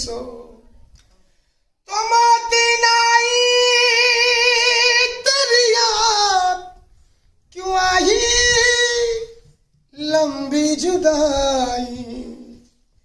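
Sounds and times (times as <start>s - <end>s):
man singing unaccompanied: 0.0s - 0.6s, 1.9s - 6.9s, 7.5s - 12.6s.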